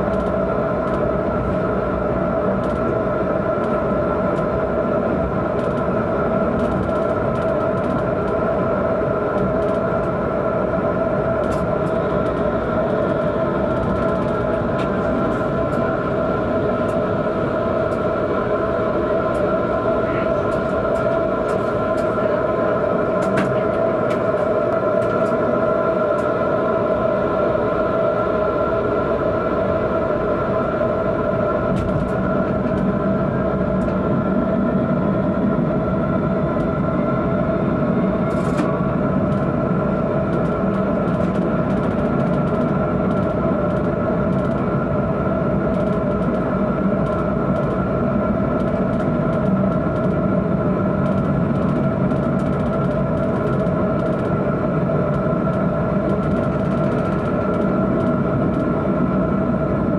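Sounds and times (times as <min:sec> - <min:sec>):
tram motor whine: 0:00.0 - 0:59.9
wheels rumbling on rails: 0:00.0 - 0:59.9.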